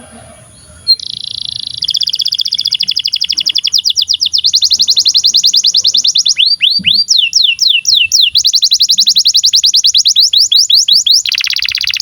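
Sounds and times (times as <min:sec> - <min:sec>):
canary singing a fast trill: 0:00.4 - 0:12.0.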